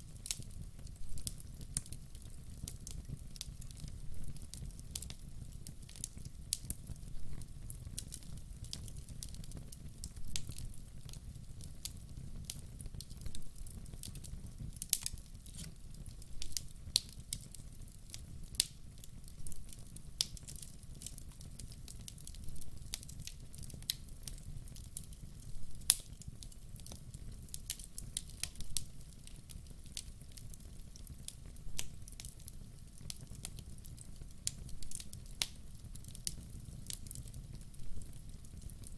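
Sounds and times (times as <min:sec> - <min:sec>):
burning logs crackling: 0:00.0 - 0:38.9
low rumble of fire: 0:00.0 - 0:38.9.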